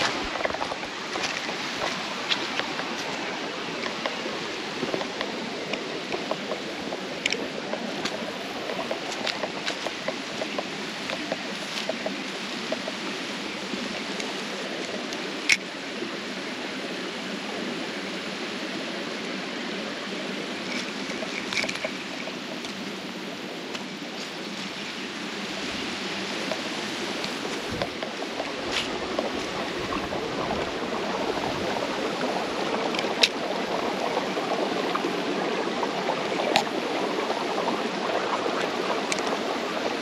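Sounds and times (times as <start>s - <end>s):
water rushing through ditch: 0.0s - 40.0s.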